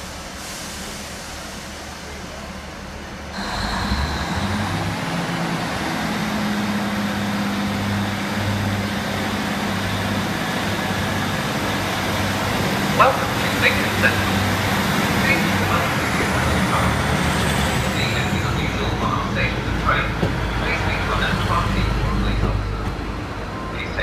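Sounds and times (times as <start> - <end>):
diesel train engine humming: 0.0 - 24.0.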